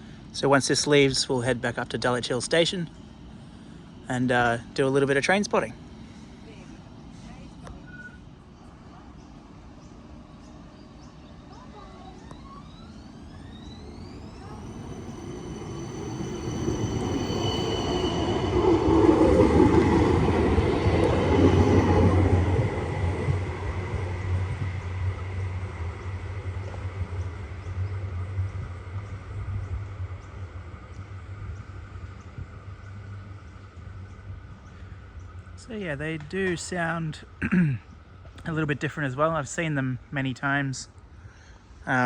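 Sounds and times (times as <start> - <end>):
tram motors whining: 0.0 - 40.1
tram running noise: 0.0 - 41.2.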